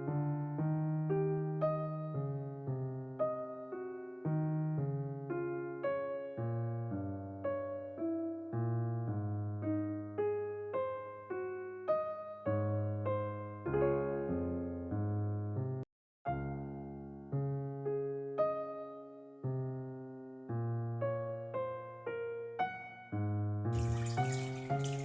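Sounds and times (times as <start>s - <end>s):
soft electric piano melody: 0.0s - 25.0s.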